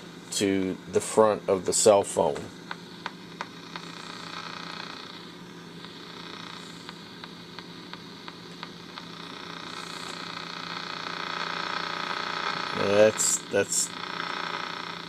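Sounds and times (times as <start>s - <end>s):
radio static hiss: 0.0s - 15.0s
steady hum: 0.0s - 15.0s
sharp interference ticks: 0.5s - 15.0s.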